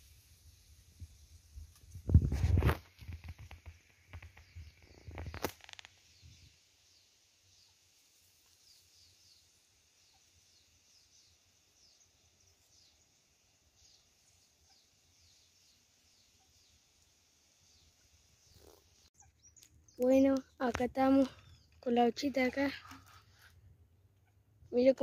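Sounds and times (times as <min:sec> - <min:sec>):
faint outdoor ambience: 0:00.0 - 0:25.0
small bird chirping: 0:03.1 - 0:25.0.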